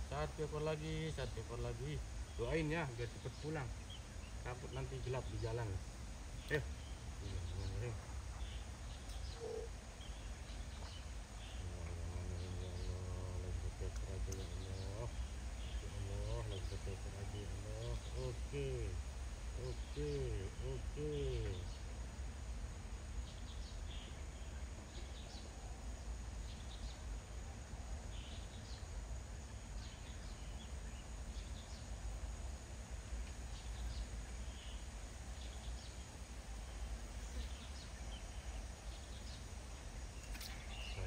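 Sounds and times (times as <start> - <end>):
low steady rumble: 0.0 - 41.0.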